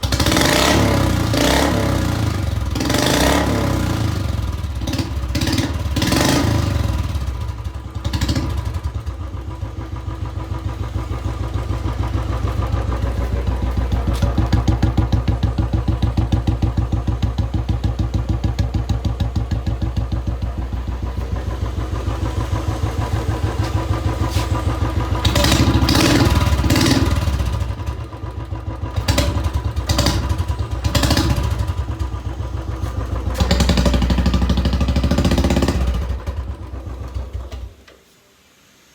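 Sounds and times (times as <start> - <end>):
motorcycle engine thumping exhaust: 0.0 - 38.0.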